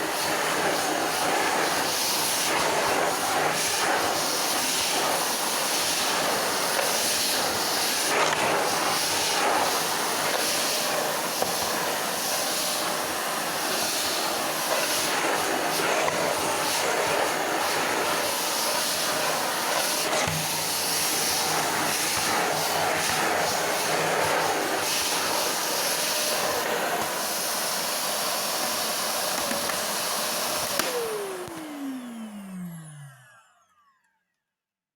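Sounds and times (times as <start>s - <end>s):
vacuum cleaner running: 0.0s - 34.2s.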